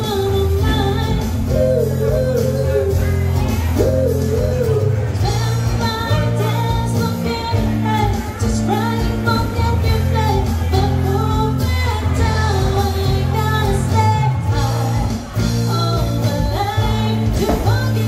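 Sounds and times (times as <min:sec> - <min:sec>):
guitar accompaniment: 0:00.0 - 0:18.0
low bass notes: 0:00.0 - 0:18.0
woman singing into microphone: 0:00.0 - 0:18.0.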